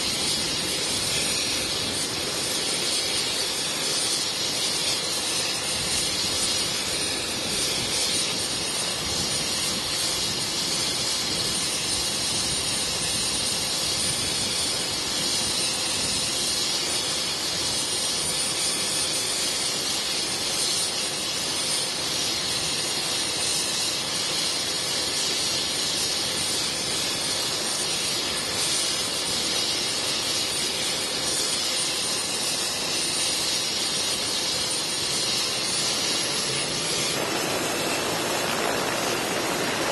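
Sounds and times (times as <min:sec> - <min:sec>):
helicopter turbine engine running: 0:00.0 - 0:39.9.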